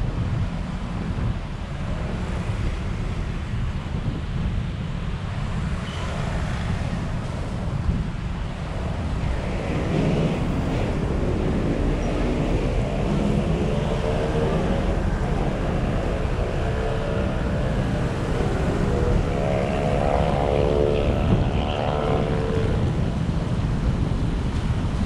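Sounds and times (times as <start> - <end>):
vehicle engine hum: 0.0 - 25.0
wind and road noise: 0.0 - 25.0.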